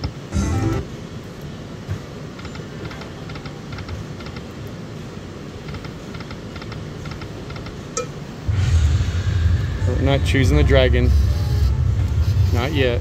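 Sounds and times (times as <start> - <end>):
casino background hum: 0.0 - 8.5, 9.3 - 13.0.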